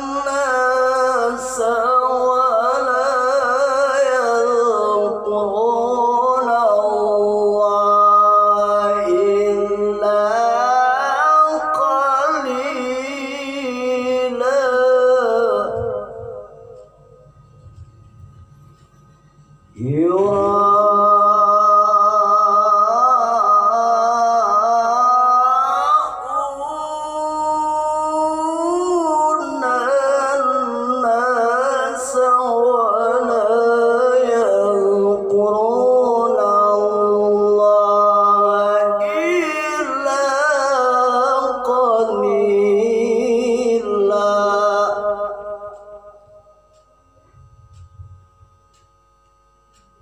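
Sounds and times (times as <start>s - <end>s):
man reciting melodically: 0.0s - 17.6s, 19.7s - 47.9s.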